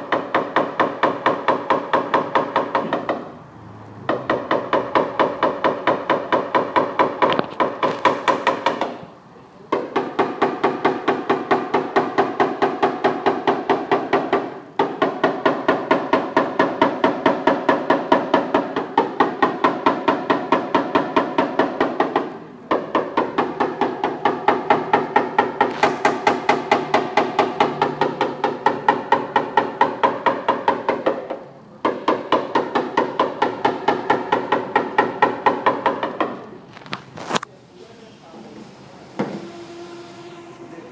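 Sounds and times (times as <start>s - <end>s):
hammer tapping sheet metal: 0.0s - 3.4s, 4.0s - 9.1s, 9.7s - 36.6s.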